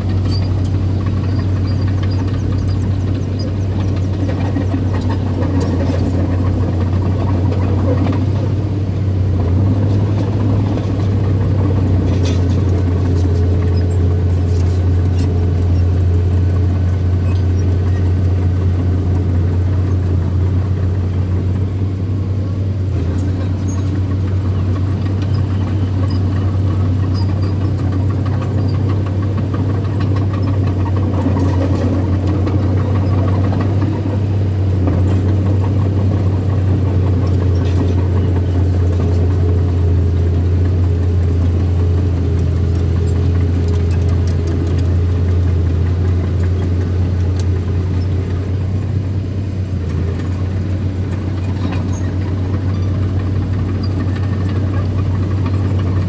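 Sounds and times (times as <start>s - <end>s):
heavy machine engine droning: 0.0s - 56.0s.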